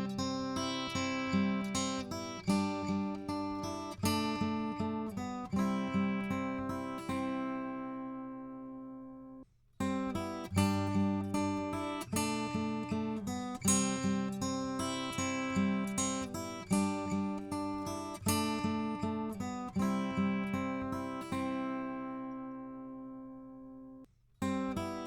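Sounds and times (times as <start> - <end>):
acoustic guitar chords: 0.0 - 25.0.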